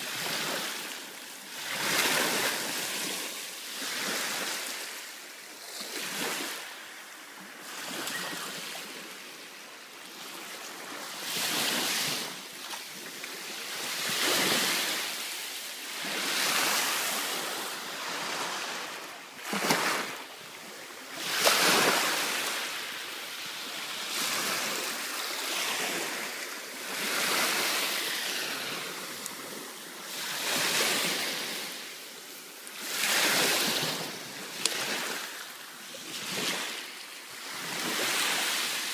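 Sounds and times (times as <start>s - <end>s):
sea waves washing onto sand: 0.0s - 9.6s, 10.3s - 38.9s.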